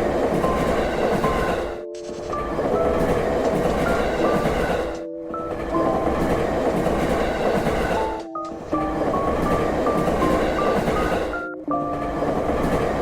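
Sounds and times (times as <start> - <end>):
melody of held notes: 0.0 - 13.0
train rumble and clatter: 0.0 - 13.0.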